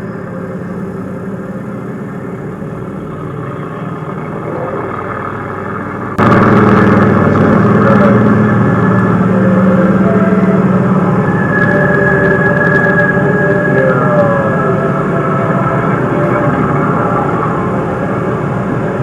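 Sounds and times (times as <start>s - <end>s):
tank engine running: 0.0s - 19.0s.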